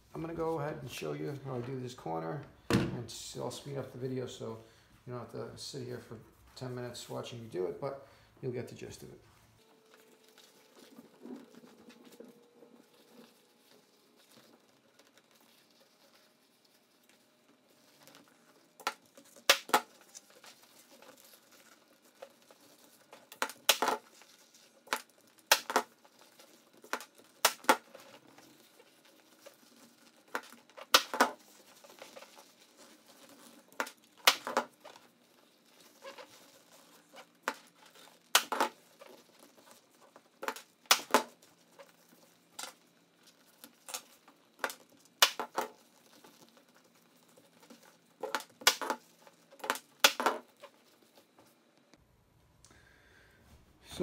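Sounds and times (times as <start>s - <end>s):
vinyl rustling: 0.0s - 7.9s, 8.5s - 52.0s.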